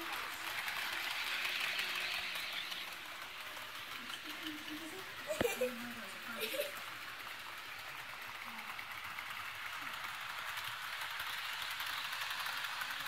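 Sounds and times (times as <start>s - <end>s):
model train wheels and motor whirring: 0.0s - 13.0s.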